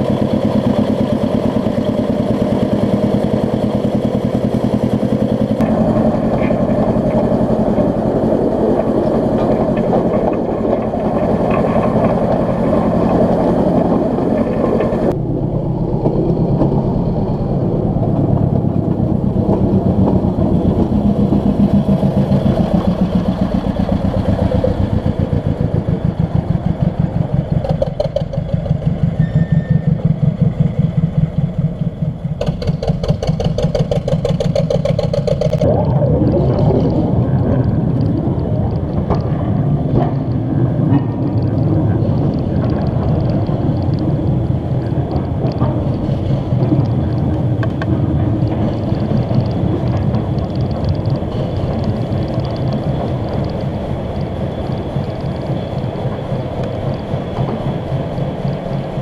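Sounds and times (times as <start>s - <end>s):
miniature locomotive running: 0.0s - 35.7s, 36.8s - 59.0s
wheels clattering on rails: 0.0s - 59.0s.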